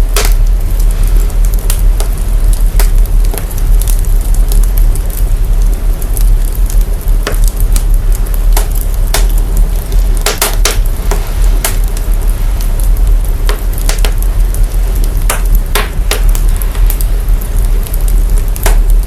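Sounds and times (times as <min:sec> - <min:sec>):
deep sub-bass rumble: 0:00.0 - 0:19.0
fire crackling and popping: 0:00.0 - 0:19.0
steady hiss: 0:00.0 - 0:19.0.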